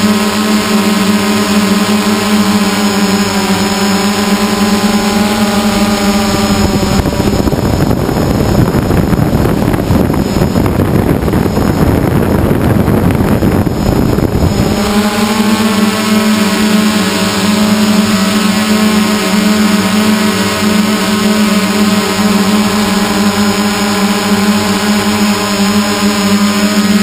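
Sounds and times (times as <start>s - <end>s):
drone motors humming: 0.0s - 27.0s.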